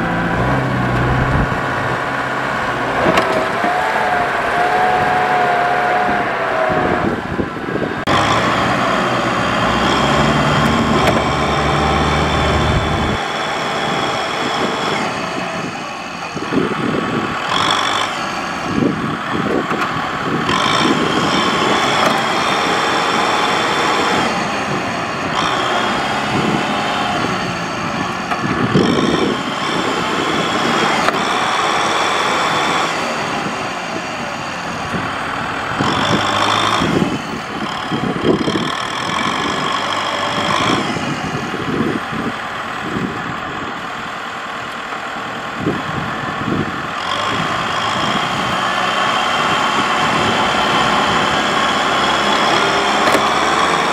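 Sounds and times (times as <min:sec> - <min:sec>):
diesel tractor engines under load: 0:00.0 - 0:53.9.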